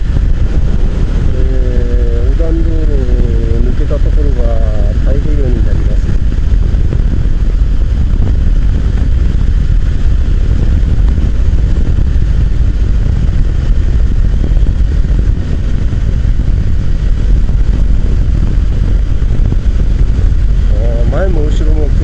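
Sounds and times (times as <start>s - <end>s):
motorcycle running: 0.0s - 22.0s
wind rush over microphone: 0.0s - 22.0s.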